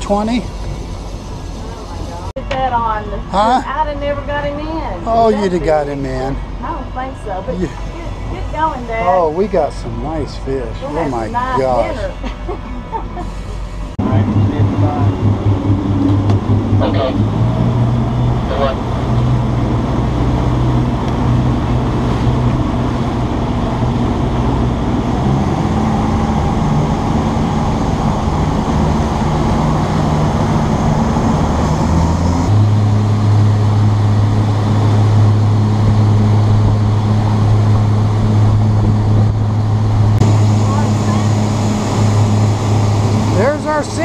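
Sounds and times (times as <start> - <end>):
water rushing along hull: 0.0 - 12.2, 14.0 - 44.0
boat motor running: 0.0 - 44.0.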